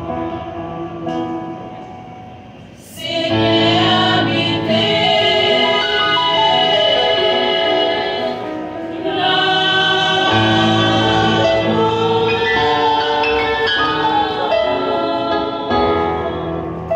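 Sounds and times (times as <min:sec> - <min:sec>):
women's choir singing a hymn: 0:00.0 - 0:01.9, 0:02.8 - 0:16.9.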